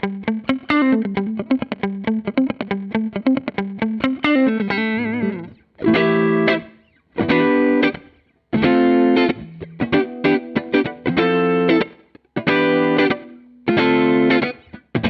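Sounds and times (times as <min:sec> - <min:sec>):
overdriven electric guitar: 0:00.0 - 0:15.0.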